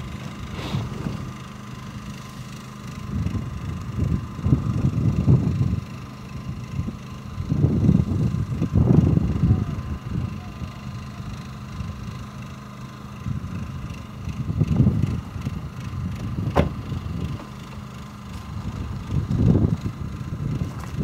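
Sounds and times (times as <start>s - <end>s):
wind buffeting microphone: 3.0s - 12.1s, 13.2s - 21.0s.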